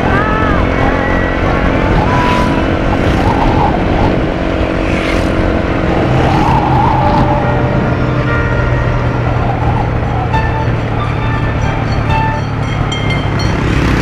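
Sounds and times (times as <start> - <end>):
wind rushing over microphone: 0.0 - 12.1
motorcycle engine running: 0.0 - 14.0.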